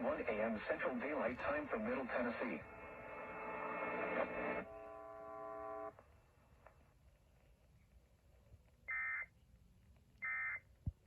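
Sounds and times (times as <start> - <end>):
electrical hum: 0.5 - 9.5.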